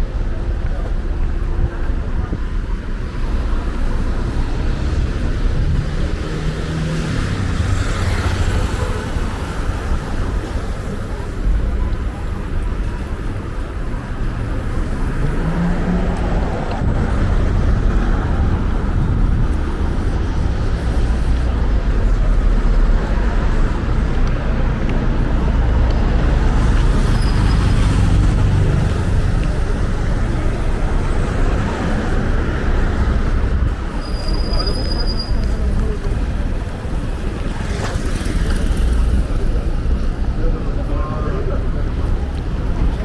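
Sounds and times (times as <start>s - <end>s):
cars passing: 0.0s - 43.0s
low traffic rumble: 0.0s - 43.0s.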